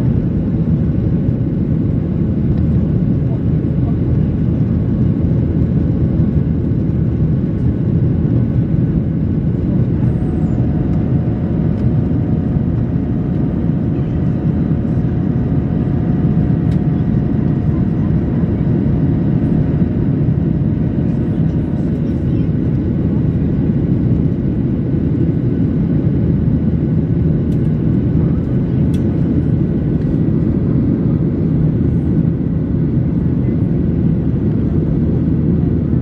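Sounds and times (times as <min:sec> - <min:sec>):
airplane cabin engine rush: 0:00.0 - 0:36.0.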